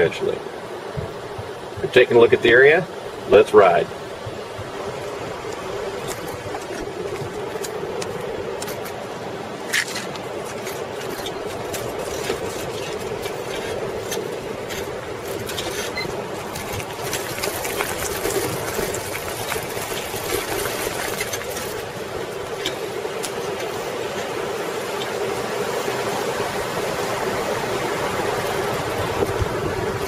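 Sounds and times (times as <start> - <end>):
bicycle tyres rolling on gravel: 1.4 - 30.0
clicks and rattles of bike and stones: 4.2 - 30.0.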